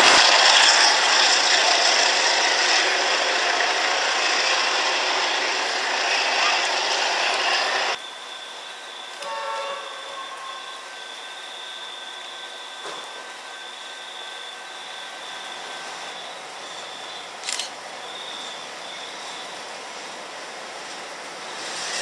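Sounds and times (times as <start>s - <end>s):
diesel locomotive approaching: 0.0s - 22.0s
faint high whine: 0.0s - 22.0s.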